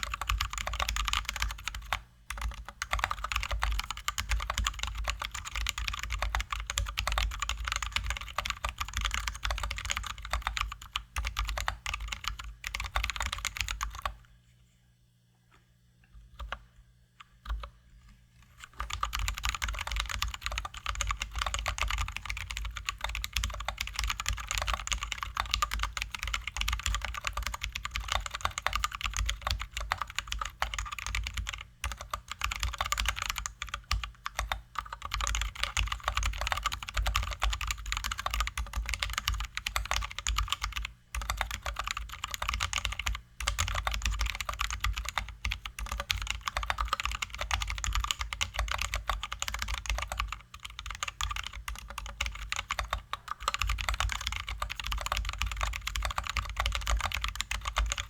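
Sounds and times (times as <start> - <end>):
mechanical keyboard typing: 0.0 - 14.2, 18.6 - 58.0.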